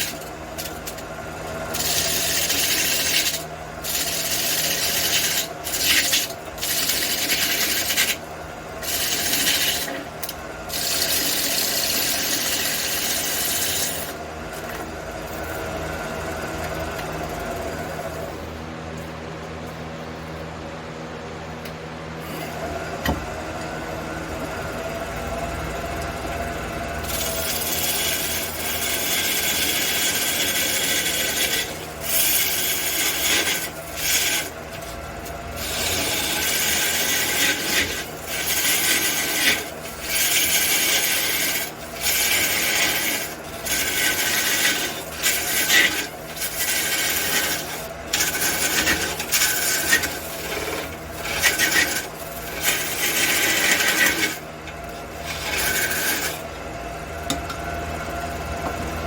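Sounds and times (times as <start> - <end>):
tool rasping on spinning wood: 0.0 - 18.4, 25.7 - 56.6
lathe motor humming: 0.0 - 18.6, 21.6 - 59.0.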